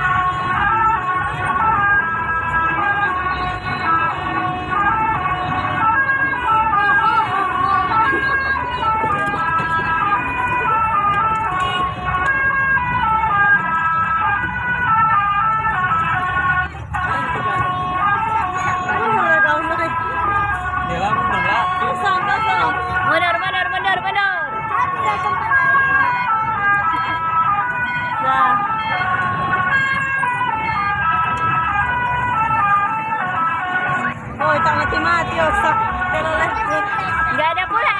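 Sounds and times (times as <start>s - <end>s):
musical vehicle horn tune: 0.0s - 37.9s
vehicle rumble: 0.0s - 37.9s.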